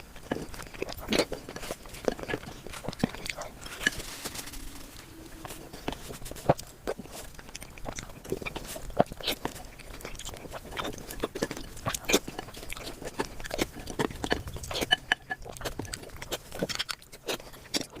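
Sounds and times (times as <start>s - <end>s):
person chewing and smacking: 0.0s - 4.0s, 5.6s - 18.0s.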